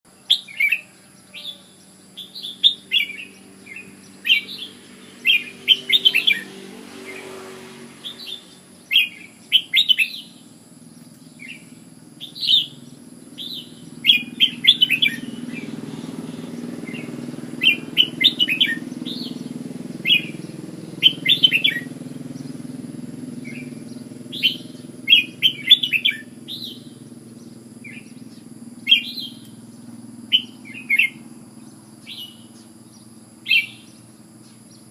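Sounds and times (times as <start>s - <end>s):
bird warbling song: 0.1s - 34.9s
low background hum: 0.1s - 34.9s.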